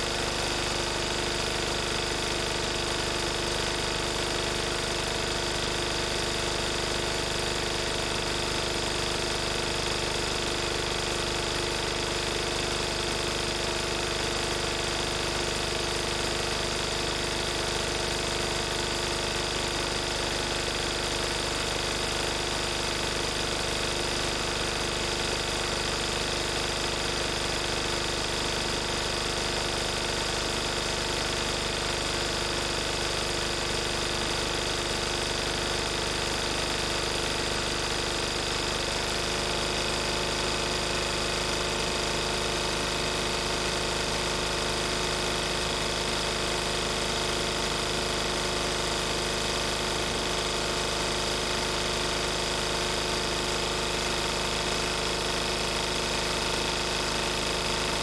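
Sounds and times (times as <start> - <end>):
diesel generator running: 0.0 - 58.0.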